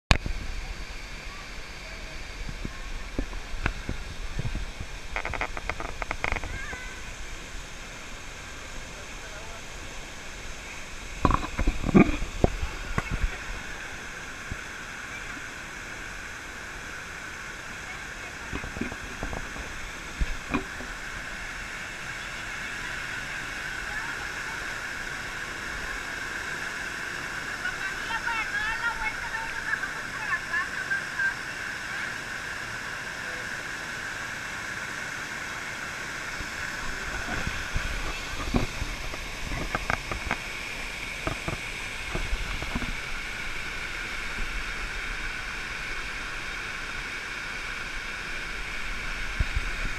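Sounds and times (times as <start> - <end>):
waterfall pouring into pool: 0.1 - 49.9.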